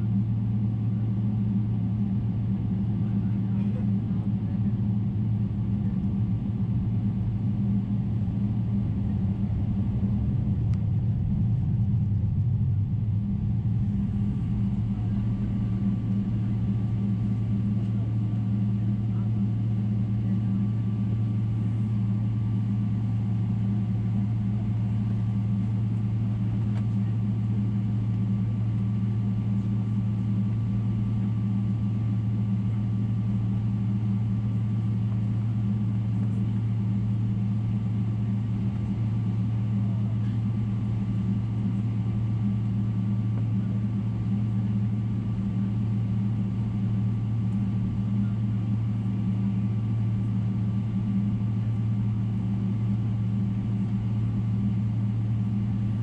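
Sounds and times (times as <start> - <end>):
aircraft cabin drone: 0.0 - 56.0
faint even whine: 1.6 - 52.4.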